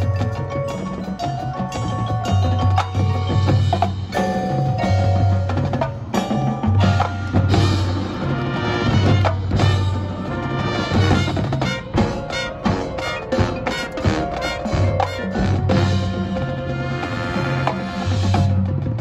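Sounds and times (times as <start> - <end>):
struck keyboard percussion notes: 0.0 - 19.0.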